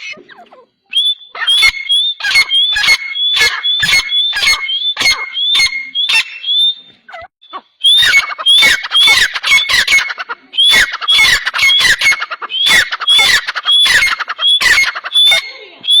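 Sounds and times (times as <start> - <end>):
birds squawking: 0.0 - 16.0.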